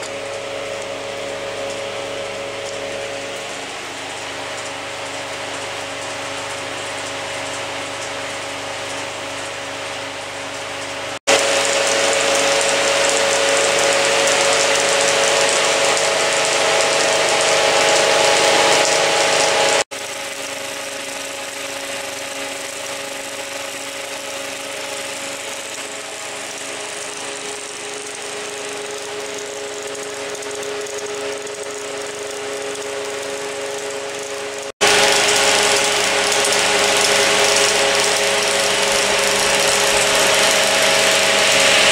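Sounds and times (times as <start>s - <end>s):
projector mechanical whir: 0.0s - 41.9s.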